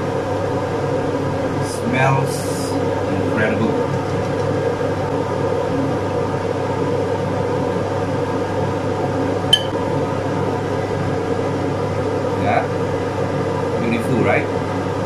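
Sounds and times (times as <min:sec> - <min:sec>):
machine hum with faint hiss: 0:00.0 - 0:15.0.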